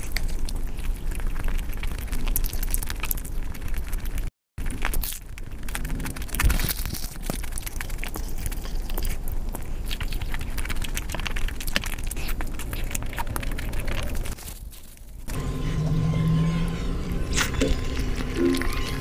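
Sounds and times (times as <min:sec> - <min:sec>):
bread tearing: 0:00.0 - 0:15.3
wet chewing: 0:00.0 - 0:19.0.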